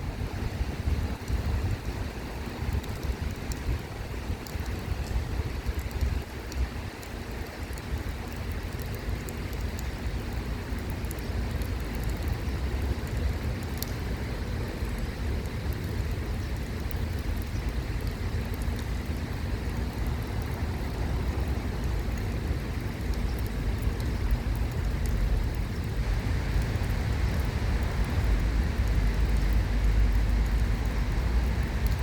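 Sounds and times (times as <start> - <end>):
faint ticks: 4.4 - 14.0, 14.8 - 26.0, 26.6 - 32.0.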